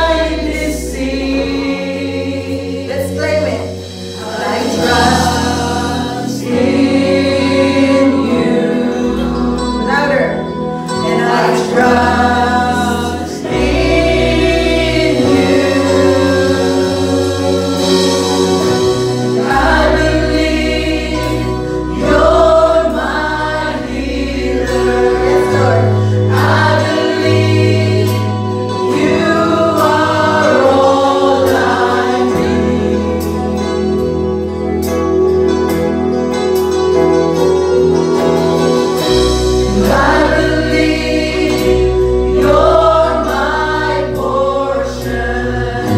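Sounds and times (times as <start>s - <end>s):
band playing: 0.0s - 45.9s
voices singing worship song: 0.0s - 45.9s.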